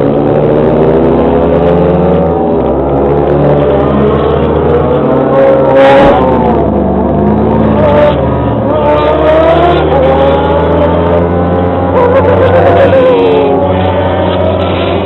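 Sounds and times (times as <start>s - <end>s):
vehicle engine running loudly: 0.0s - 15.0s.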